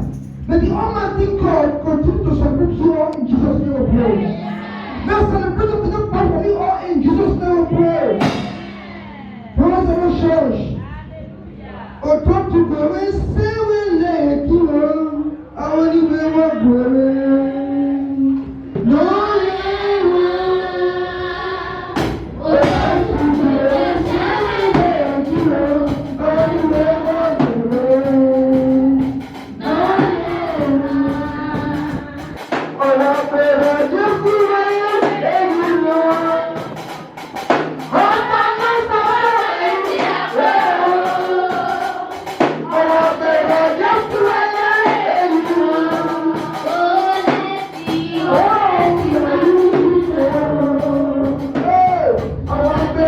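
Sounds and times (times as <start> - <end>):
choir singing a worship song: 0.0 - 10.7, 15.6 - 53.0
instrumental accompaniment: 0.0 - 13.7, 18.4 - 53.0.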